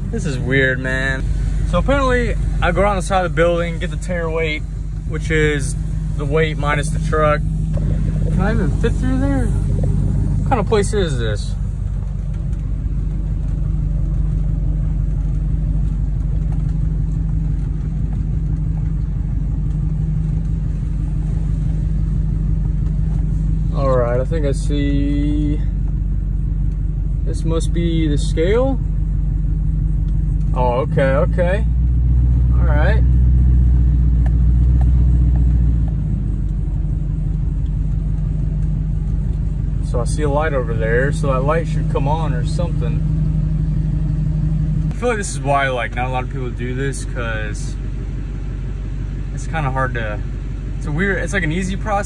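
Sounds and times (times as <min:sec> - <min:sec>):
pickup truck engine rumble: 0:00.0 - 0:52.0
road noise inside cab: 0:00.0 - 0:52.0.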